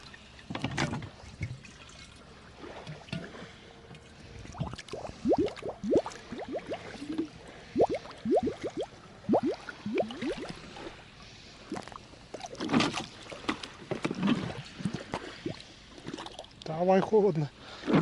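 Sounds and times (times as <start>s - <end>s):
water container glugging: 0.0s - 11.0s, 11.7s - 16.7s
water splashes: 0.0s - 17.0s.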